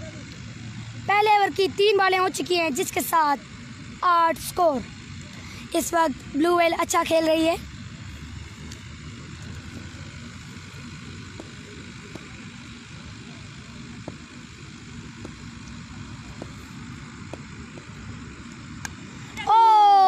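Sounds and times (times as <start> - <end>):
low rumble and hiss: 0.0 - 20.0.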